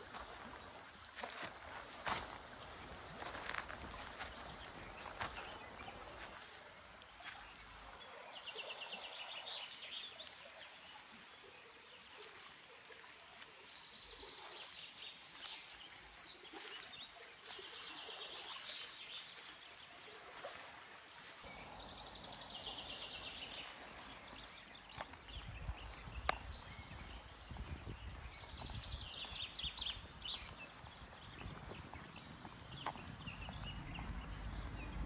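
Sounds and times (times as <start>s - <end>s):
light footsteps: 0.0s - 8.0s, 9.7s - 21.5s, 22.6s - 34.8s.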